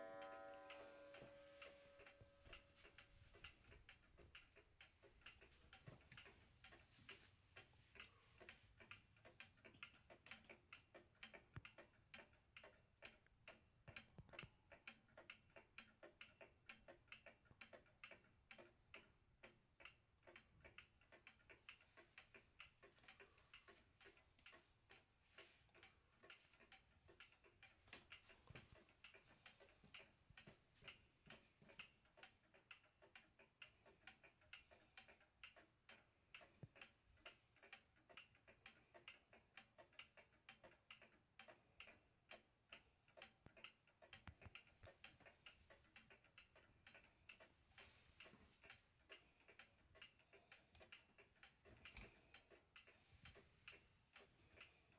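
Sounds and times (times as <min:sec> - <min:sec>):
wall clock ticking: 0:00.0 - 0:54.9.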